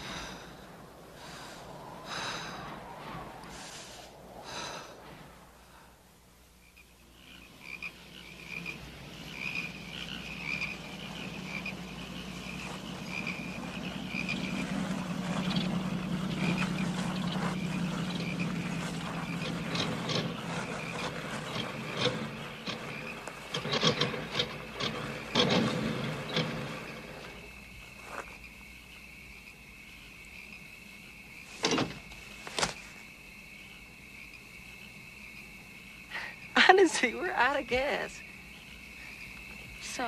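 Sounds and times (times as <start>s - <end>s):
chirping night chorus: 0.0s - 40.0s.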